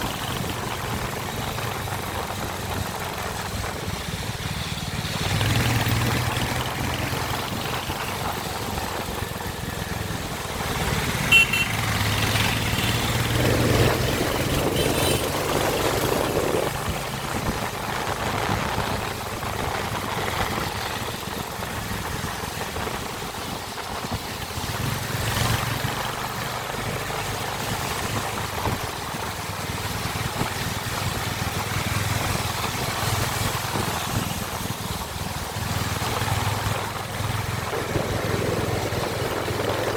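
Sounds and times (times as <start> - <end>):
motorcycle engine revving: 0.0 - 23.5, 24.1 - 39.9.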